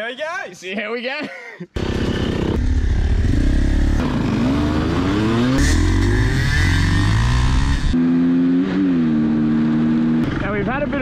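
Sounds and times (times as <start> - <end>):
dirt bike engines revving: 1.8 - 11.0.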